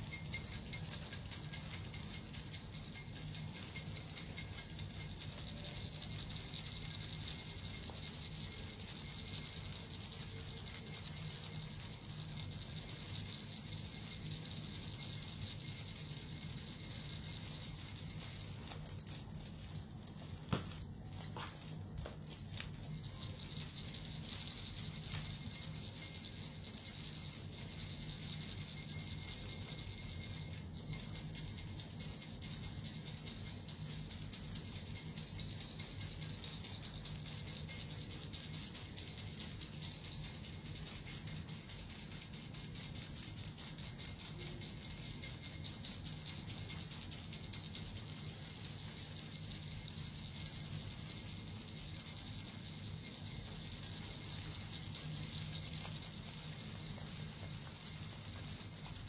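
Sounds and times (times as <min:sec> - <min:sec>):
small jingle bells shaken: 0:00.0 - 0:59.0.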